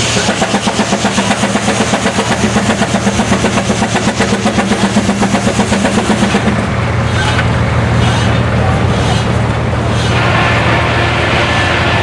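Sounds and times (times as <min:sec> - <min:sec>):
steam engine exhaust chuffing: 0:00.0 - 0:12.0.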